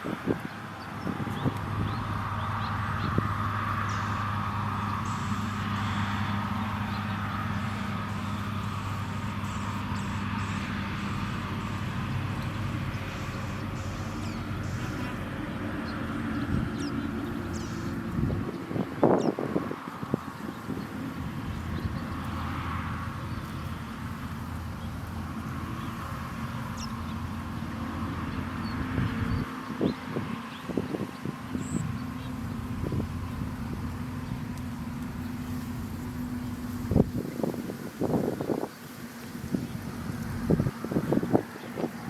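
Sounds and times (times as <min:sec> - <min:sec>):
low engine-like hum: 0:00.0 - 0:42.0
low outdoor rumble: 0:00.0 - 0:42.0.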